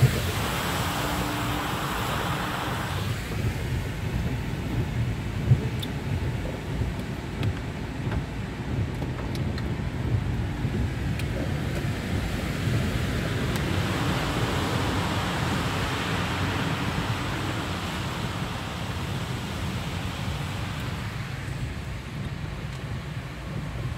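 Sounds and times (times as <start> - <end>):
car cabin low rumble: 0.0 - 23.9
water hissing and sloshing off tyres: 0.0 - 23.9.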